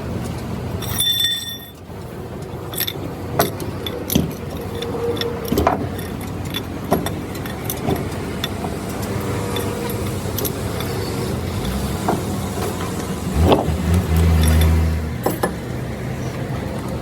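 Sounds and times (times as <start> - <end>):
metal clinks and knocks: 0.8 - 1.9, 2.7 - 15.7.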